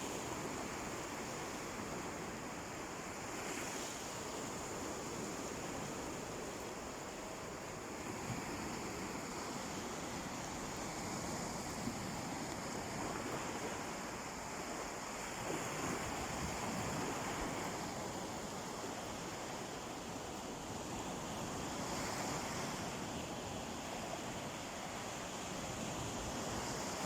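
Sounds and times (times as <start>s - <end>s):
sea surf washing on a beach: 0.0s - 27.0s.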